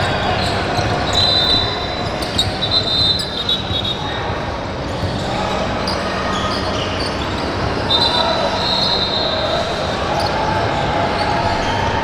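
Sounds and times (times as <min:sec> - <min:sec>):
crowd chatter echoing: 0:00.0 - 0:12.0
sneakers squeaking: 0:00.0 - 0:12.0.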